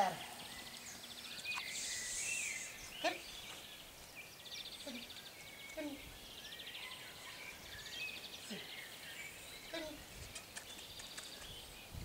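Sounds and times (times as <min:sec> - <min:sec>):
bird chirps: 0:00.0 - 0:12.0.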